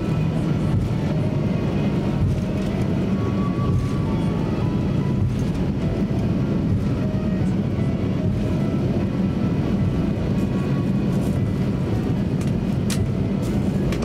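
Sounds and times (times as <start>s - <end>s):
aircraft engines rumbling: 0.0s - 14.0s
airframe rolling on taxiway: 0.0s - 14.0s.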